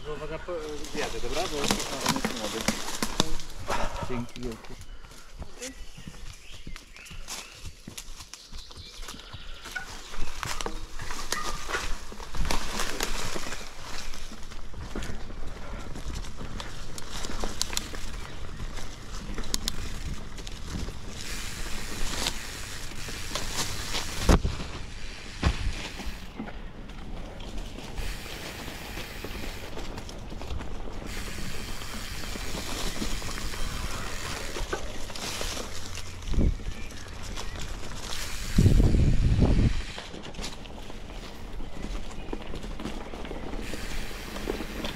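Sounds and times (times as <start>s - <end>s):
leaves and branches brushing: 0.0s - 44.9s
mountain bike rolling on dirt: 0.0s - 44.9s.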